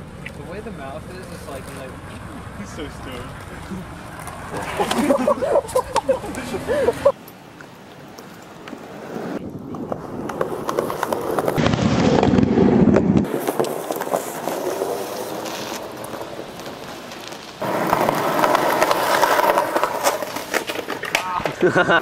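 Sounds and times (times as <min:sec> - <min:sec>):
skateboard wheels rolling: 0:00.0 - 0:22.0.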